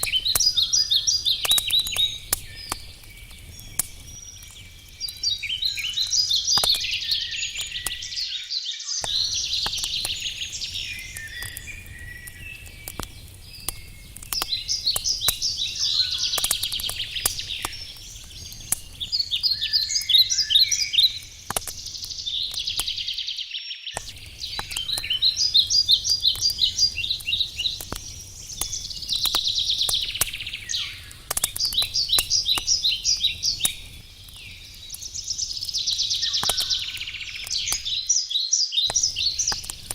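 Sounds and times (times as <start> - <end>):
campfire crackling: 0.0 - 8.3, 9.0 - 23.4, 24.0 - 39.9
songbirds singing: 0.0 - 39.9.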